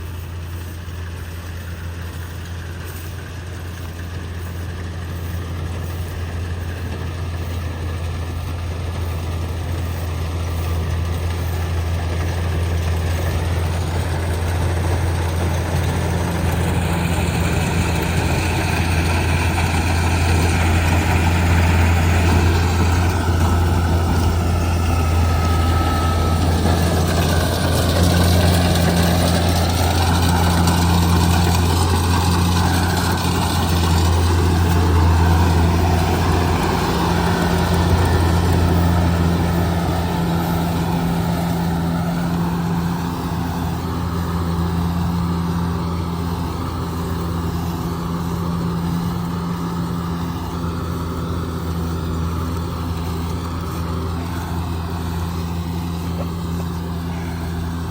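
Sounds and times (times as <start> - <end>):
combine harvester engine drone: 0.0 - 57.9.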